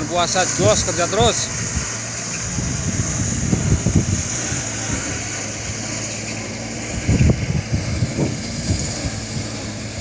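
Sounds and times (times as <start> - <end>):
tyres on gravel road: 0.0 - 10.0
vehicle engine running: 0.0 - 10.0.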